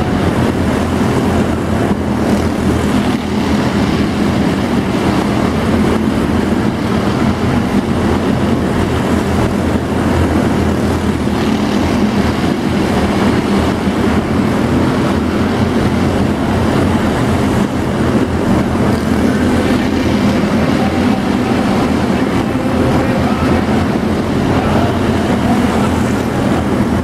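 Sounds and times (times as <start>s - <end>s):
racing car engines droning: 0.0s - 27.0s.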